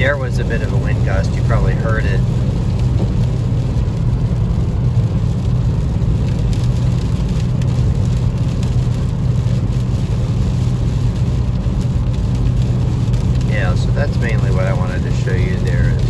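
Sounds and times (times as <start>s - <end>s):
car engine drone: 0.0s - 16.0s
rain hitting car: 0.0s - 16.0s
tyres on wet road: 0.0s - 16.0s.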